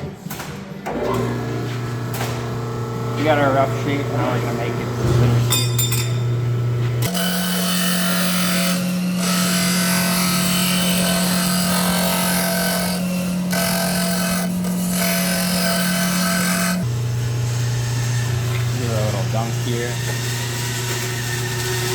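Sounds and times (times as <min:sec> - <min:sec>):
motor hum: 0:00.8 - 0:21.9
disc sander grinding: 0:00.9 - 0:21.9.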